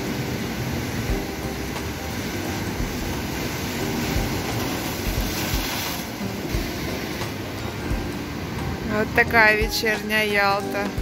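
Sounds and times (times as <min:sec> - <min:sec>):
sea waves washing against wall: 0:00.0 - 0:11.0.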